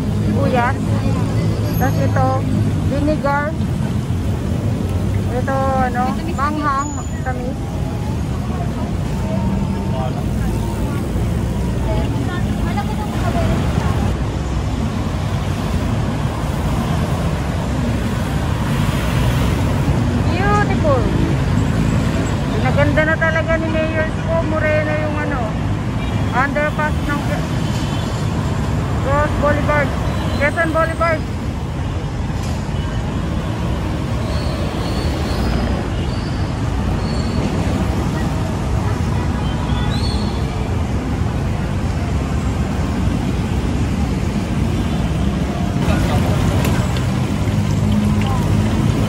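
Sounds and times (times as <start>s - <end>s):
road traffic noise: 0.0s - 49.0s.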